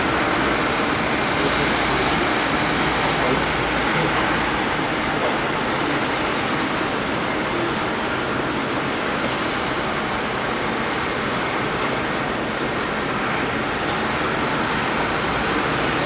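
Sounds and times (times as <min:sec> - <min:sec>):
airplane cabin engine noise: 0:00.0 - 0:16.0.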